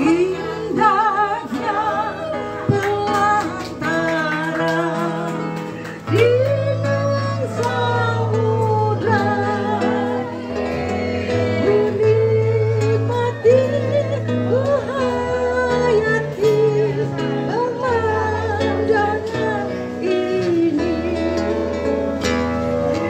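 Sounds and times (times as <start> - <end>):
plucked guitar: 0.0 - 23.0
woman singing: 0.0 - 23.0.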